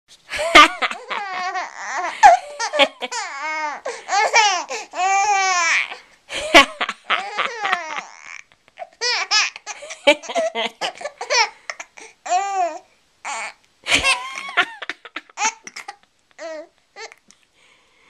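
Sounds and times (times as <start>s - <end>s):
baby laughing: 0.4s - 12.7s, 13.3s - 17.2s.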